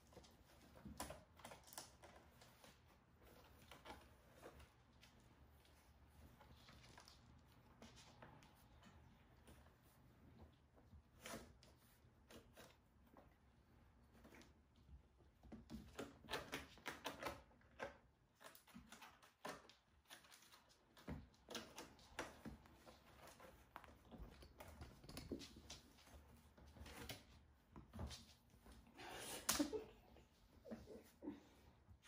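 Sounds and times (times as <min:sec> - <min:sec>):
kittens scampering on a hard floor: 0:00.0 - 0:32.0.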